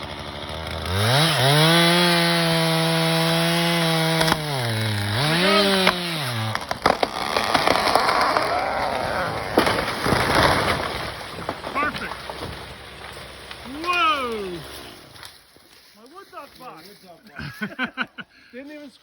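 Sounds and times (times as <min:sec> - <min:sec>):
chainsaw cutting tree: 0:00.0 - 0:15.5
wood cracking and snapping: 0:00.0 - 0:15.8.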